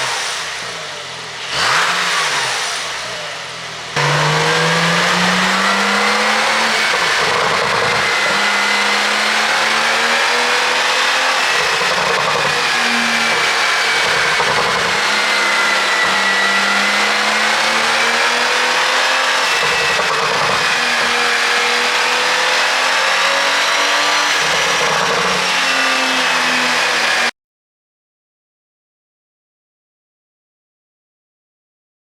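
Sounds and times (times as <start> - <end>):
car engine running loud: 0.0 - 27.3.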